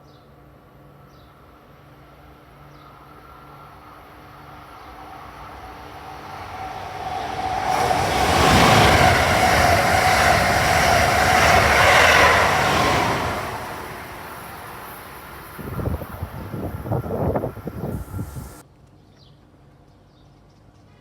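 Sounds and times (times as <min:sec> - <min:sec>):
train passing at speed: 0:01.4 - 0:18.6.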